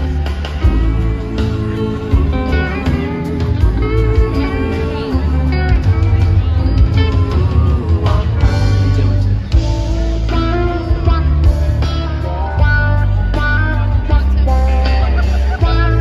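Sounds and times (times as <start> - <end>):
electric guitar line: 0.0 - 16.0
live rock band playing: 0.0 - 16.0.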